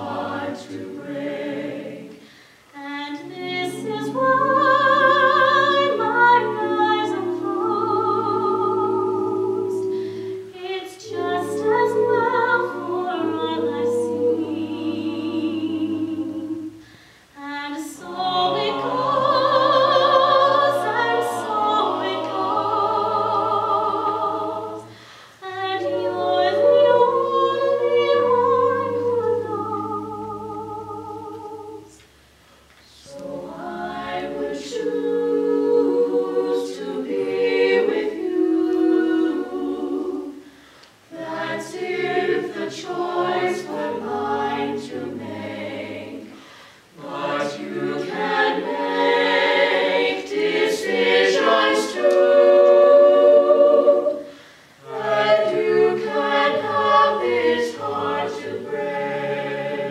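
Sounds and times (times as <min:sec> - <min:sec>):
a cappella group singing in harmony: 0:00.0 - 0:59.9.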